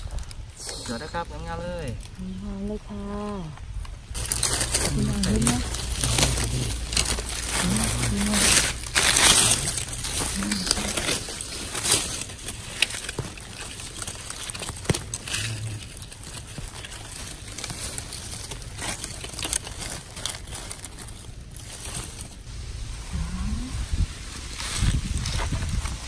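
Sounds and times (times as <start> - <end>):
dry leaves rustling and crackling: 0.0 - 26.0.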